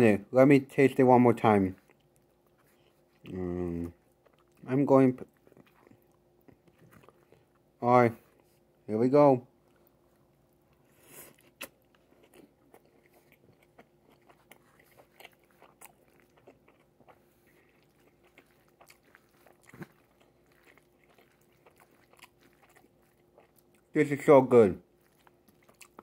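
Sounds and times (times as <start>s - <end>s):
close chewing crunches: 1.4s - 8.6s, 9.6s - 24.1s, 24.8s - 26.0s.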